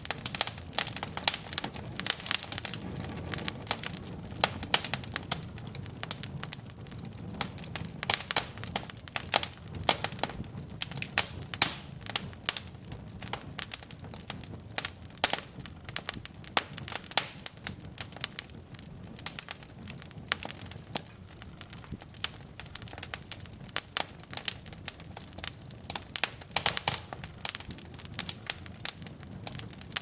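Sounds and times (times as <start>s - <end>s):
logs crackling and popping: 0.0s - 30.0s
low flame rumble: 0.0s - 30.0s.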